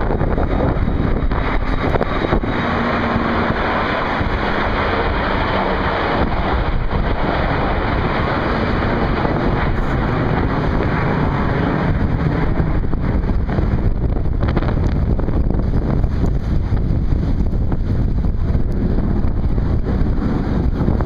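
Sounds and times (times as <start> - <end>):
jet aircraft roaring overhead: 0.0 - 21.0
wind buffeting microphone: 0.0 - 21.0.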